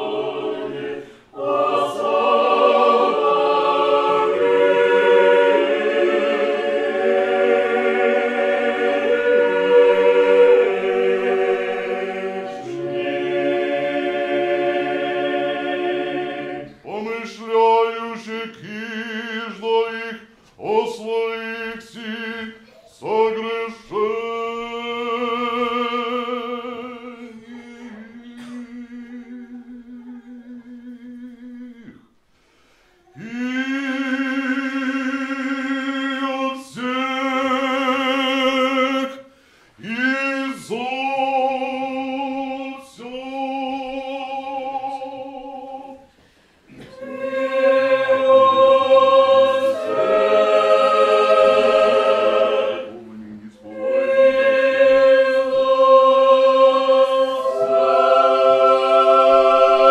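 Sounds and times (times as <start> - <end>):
choir singing a cappella chant: 0.0 - 59.9.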